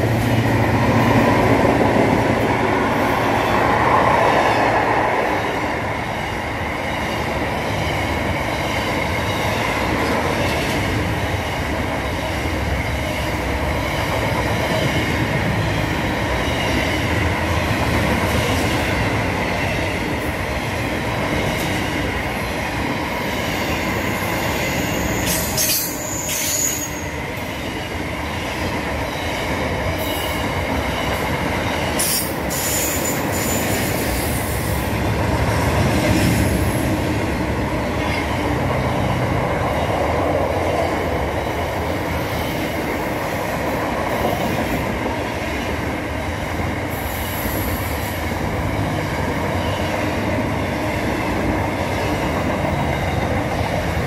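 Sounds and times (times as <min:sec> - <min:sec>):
freight train wagons rolling past: 0:00.0 - 0:54.0.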